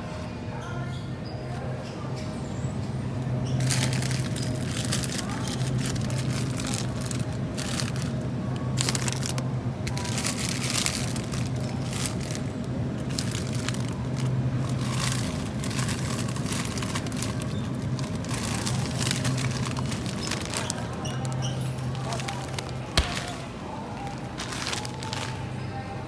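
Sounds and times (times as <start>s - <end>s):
steady low hum: 2.3s - 26.0s
plastic packaging crinkling: 3.6s - 25.6s.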